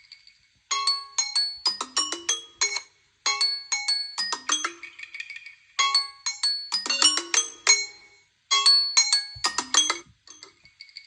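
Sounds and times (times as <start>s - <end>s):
marimba-like ringtone melody: 0.7s - 10.0s.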